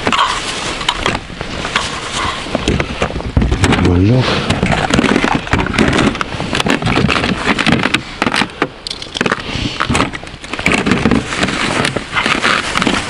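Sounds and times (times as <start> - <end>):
plastic lures and boxes clattering: 0.0 - 13.0.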